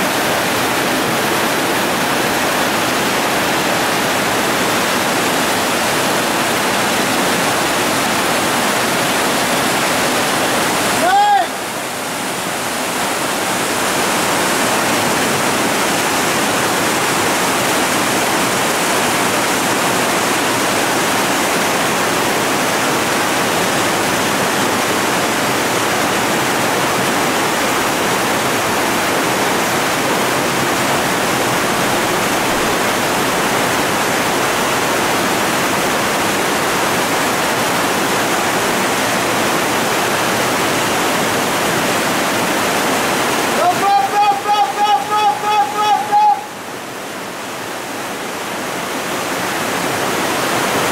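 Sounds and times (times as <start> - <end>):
whitewater rapids rushing: 0.0 - 50.9.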